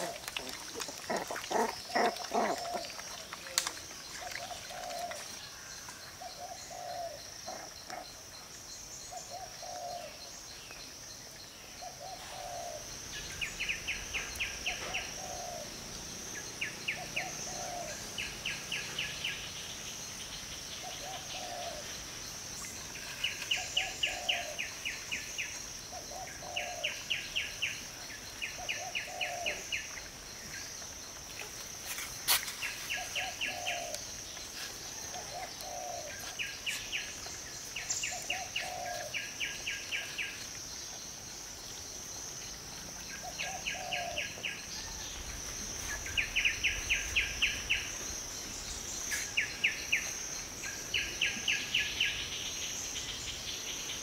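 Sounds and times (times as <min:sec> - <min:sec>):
high insect drone: 0:01.3 - 0:54.0.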